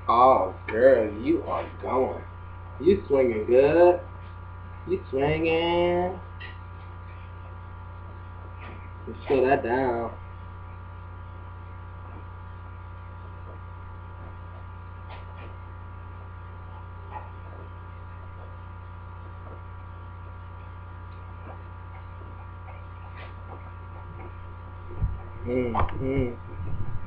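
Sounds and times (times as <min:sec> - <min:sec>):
low electric hum: 0:00.0 - 0:27.0.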